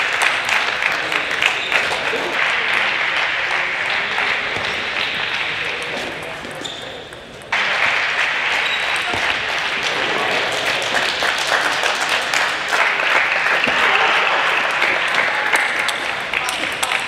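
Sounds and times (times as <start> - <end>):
spectators applauding: 0.0 - 6.0, 7.5 - 17.0.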